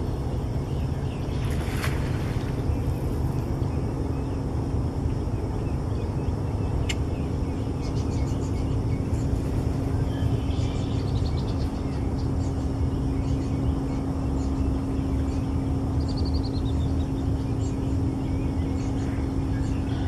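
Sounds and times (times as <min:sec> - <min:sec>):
constant hum: 0:00.0 - 0:20.0
small birds chirping: 0:00.0 - 0:20.0.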